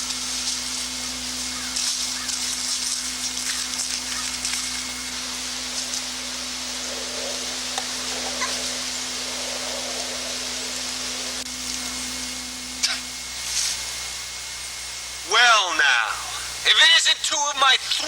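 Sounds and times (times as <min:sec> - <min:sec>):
low hum: 0:00.0 - 0:18.0
steady hiss: 0:00.0 - 0:18.0.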